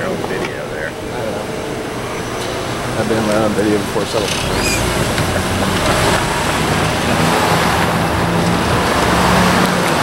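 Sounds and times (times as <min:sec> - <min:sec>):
cars driving past: 0:00.0 - 0:10.0.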